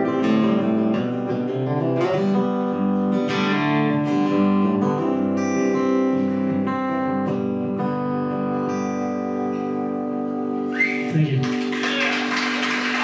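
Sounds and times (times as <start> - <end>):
acoustic guitar strumming chords: 0.0 - 11.7.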